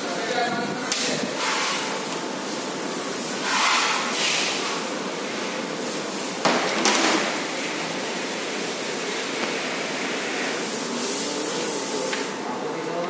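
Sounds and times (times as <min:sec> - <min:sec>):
steady workshop hiss: 0:00.0 - 0:13.0.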